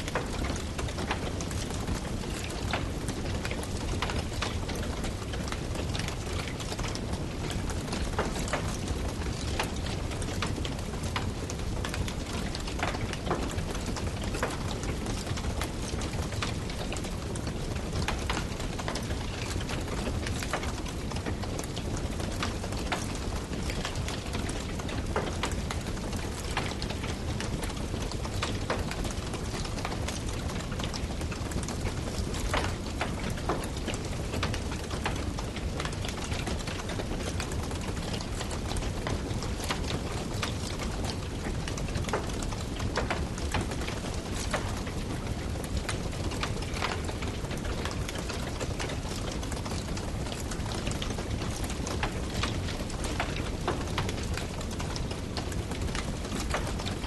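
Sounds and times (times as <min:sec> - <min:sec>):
firewood crackling and popping: 0:00.1 - 0:57.0.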